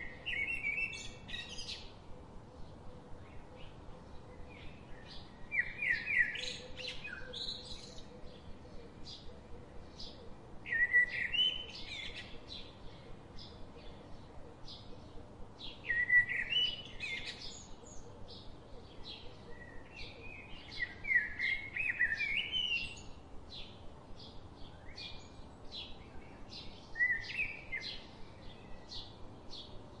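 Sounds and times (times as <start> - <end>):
bird warbling song: 0.0 - 30.0.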